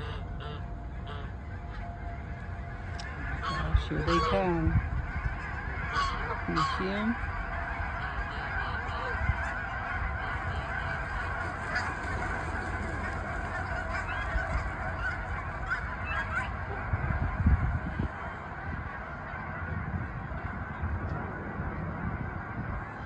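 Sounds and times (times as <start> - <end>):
geese honking: 0.0 - 23.0.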